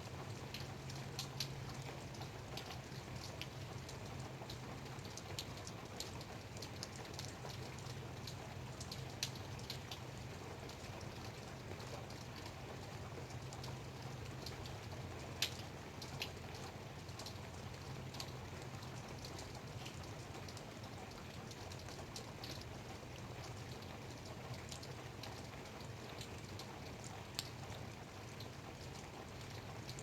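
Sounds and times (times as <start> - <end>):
light rain hiss: 0.0 - 30.0.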